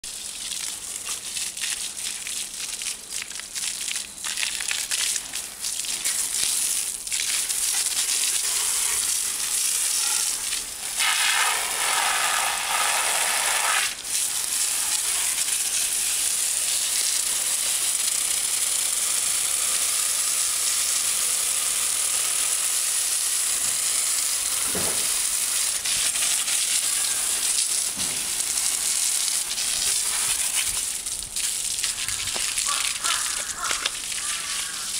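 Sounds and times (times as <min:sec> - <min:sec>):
water jet spraying: 0:00.2 - 0:34.9.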